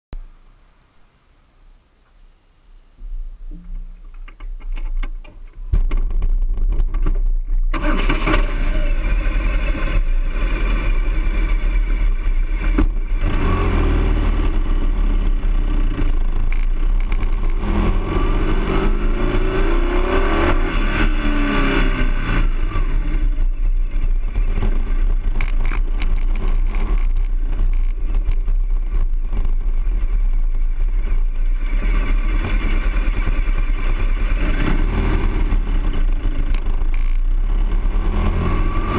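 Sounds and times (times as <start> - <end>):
motorcycle engine revving: 5.8 - 38.9.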